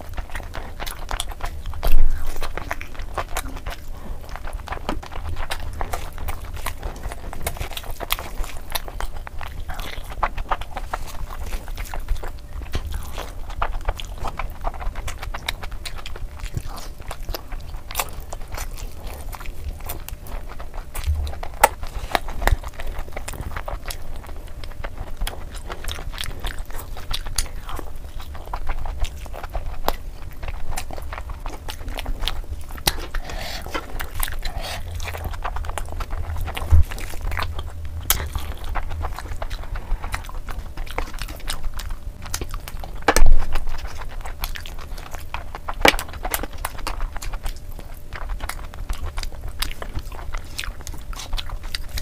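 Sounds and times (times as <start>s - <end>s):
wet chewing and lip smacking: 0.0s - 52.0s.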